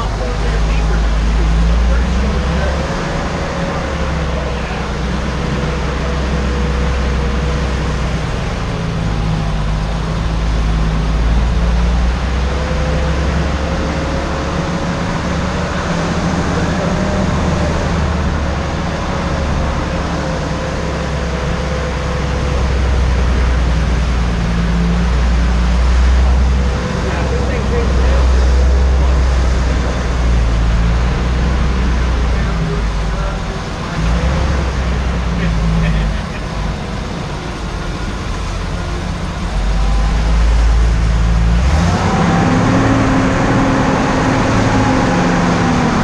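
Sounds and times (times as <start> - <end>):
faint engine whine: 0.0 - 46.0
vehicle engine rumbling: 0.0 - 46.0.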